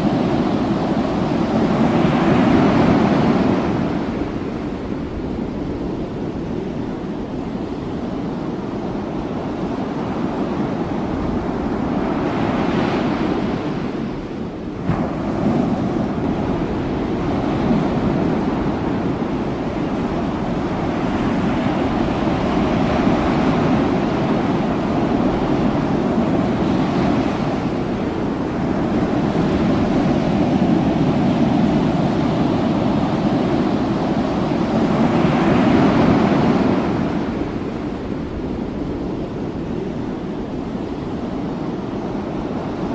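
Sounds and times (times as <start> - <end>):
open sea wash: 0.0 - 42.9
wind on microphone: 0.0 - 42.9.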